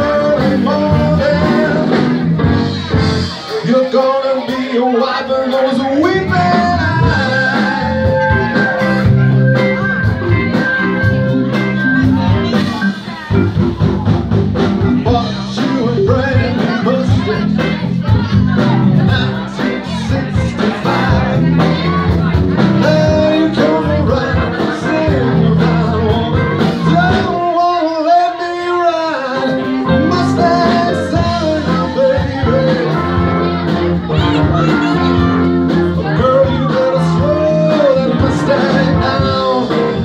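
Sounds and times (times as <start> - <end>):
person singing: 0.0 - 14.1, 14.8 - 40.0
bass and drum beat: 0.0 - 40.0
electric guitar: 0.0 - 40.0
live rock band playing: 0.0 - 40.0.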